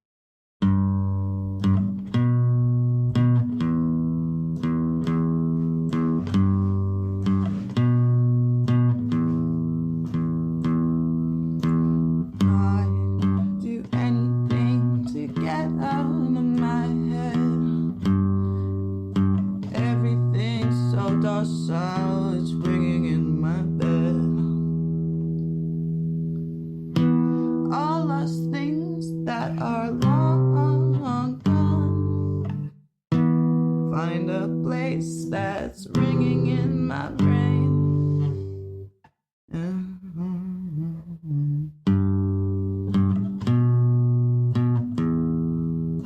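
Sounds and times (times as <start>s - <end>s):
bass guitar line: 0.6s - 46.0s
plucked guitar chords: 0.6s - 46.0s.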